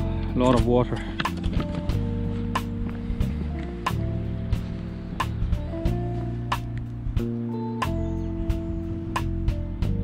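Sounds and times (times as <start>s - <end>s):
sustained low background music: 0.0s - 10.0s.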